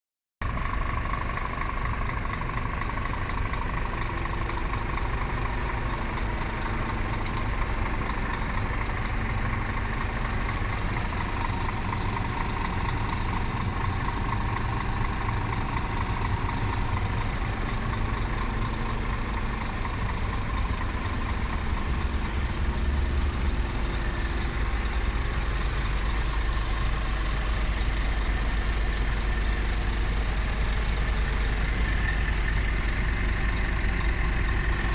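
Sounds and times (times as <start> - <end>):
truck diesel engine idling: 0.4 - 34.9.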